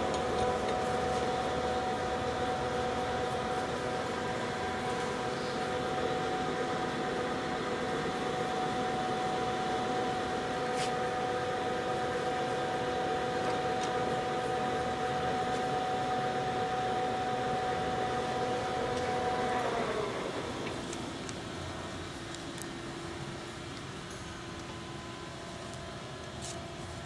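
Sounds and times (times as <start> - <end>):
lathe gearing whine: 0.0 - 27.0.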